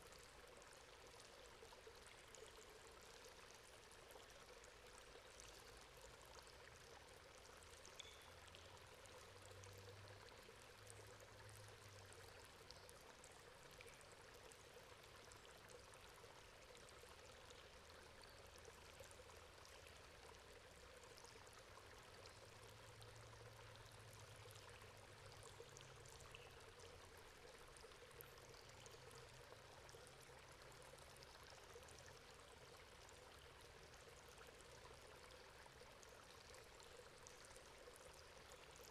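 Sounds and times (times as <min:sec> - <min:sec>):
water trickling through a grate: 0:00.0 - 0:38.9.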